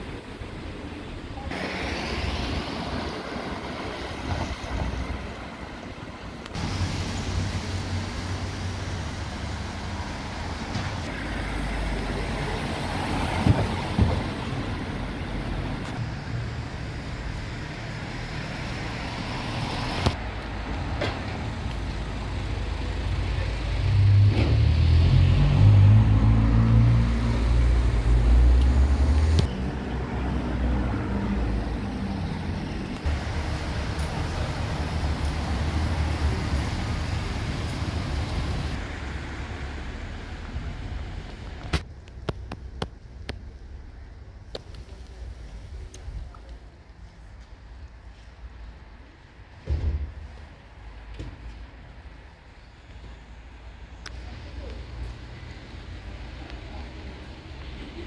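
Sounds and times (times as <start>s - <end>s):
cars driving along street: 0.0s - 58.0s.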